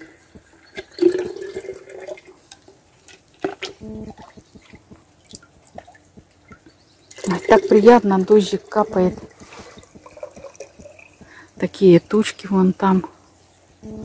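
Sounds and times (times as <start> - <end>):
liquid dripping through strainer: 0.0 - 11.7
light rain dripping: 0.0 - 13.8.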